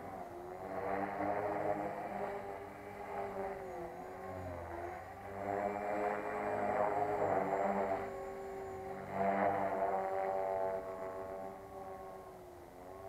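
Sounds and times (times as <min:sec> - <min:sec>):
rc helicopter rotor whine: 0:00.0 - 0:13.0.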